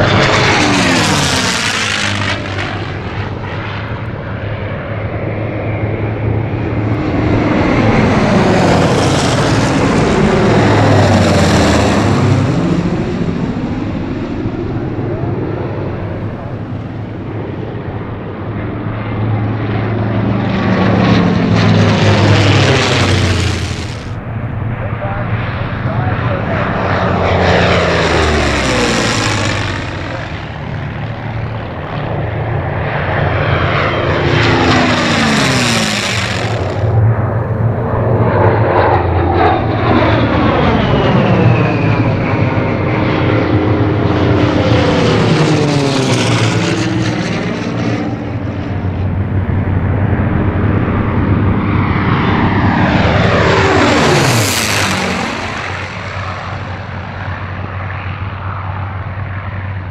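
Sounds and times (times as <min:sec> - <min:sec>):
propeller planes passing low: 0:00.0 - 0:59.9.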